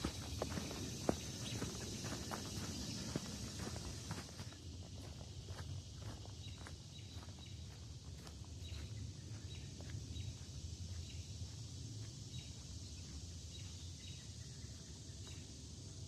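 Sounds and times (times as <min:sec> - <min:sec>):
insect chorus hissing: 0:00.0 - 0:16.0.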